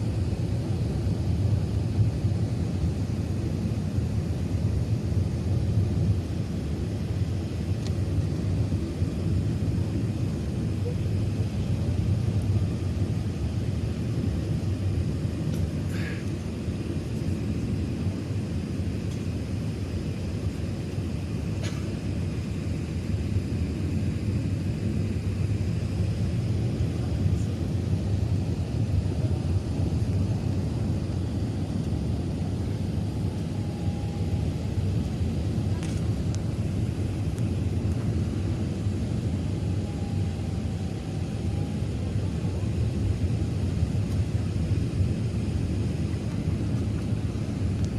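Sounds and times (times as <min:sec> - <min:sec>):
aircraft cabin rumble: 0:00.0 - 0:47.9
faint high whine: 0:06.2 - 0:47.9.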